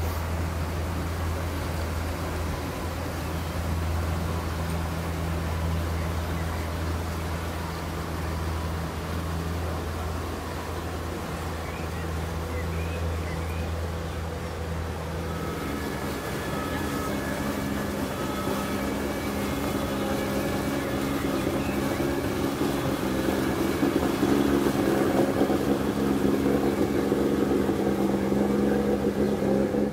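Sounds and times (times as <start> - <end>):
motorboat engine running: 0.0 - 29.9.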